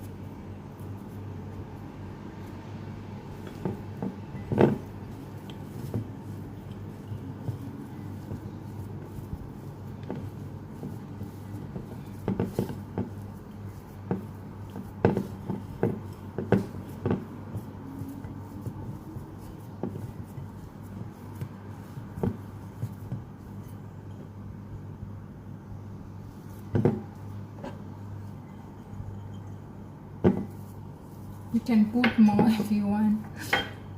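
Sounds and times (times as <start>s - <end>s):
utensil stirring dough in bowl: 0.0s - 24.7s, 26.1s - 33.9s
steady low hum: 0.0s - 33.9s.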